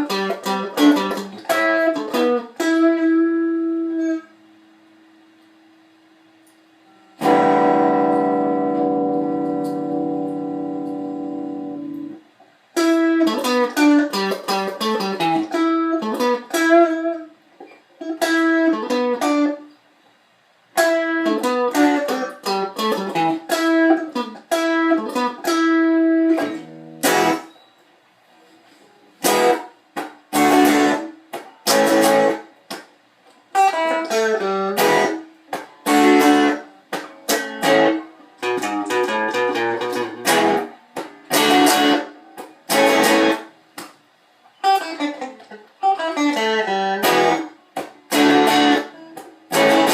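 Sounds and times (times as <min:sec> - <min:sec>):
electric guitar playing: 0:00.0 - 0:04.4, 0:06.4 - 0:19.8, 0:20.8 - 0:27.6, 0:28.8 - 0:43.6, 0:44.5 - 0:49.9.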